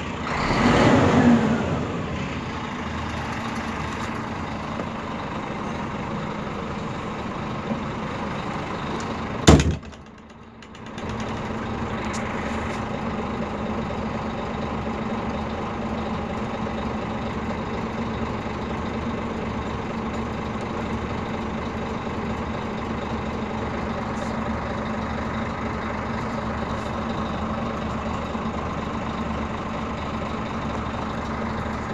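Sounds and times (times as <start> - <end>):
bus diesel engine droning: 0.0 - 31.9.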